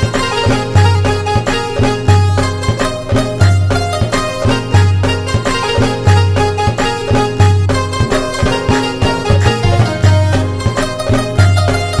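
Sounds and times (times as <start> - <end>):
steady drum beat: 0.0 - 11.9
melodic folk instrument: 0.0 - 12.0.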